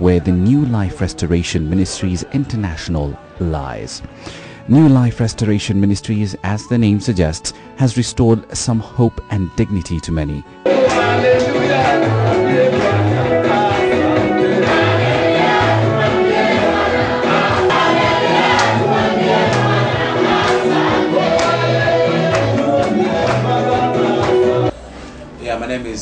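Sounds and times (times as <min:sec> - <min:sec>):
gospel music with singing: 0:00.0 - 0:09.5, 0:10.4 - 0:24.7.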